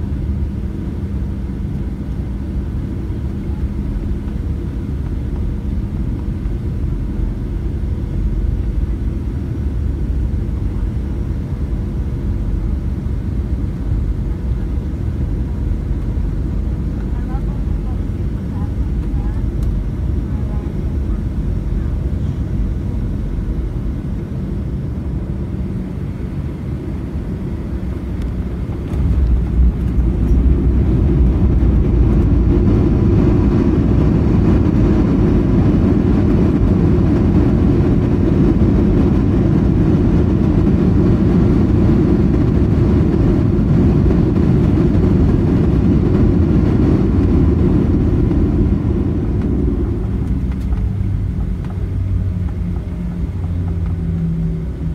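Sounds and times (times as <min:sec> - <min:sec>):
aircraft touchdown rumble: 0:00.0 - 0:54.9
jet engines and rushing air: 0:00.0 - 0:54.9.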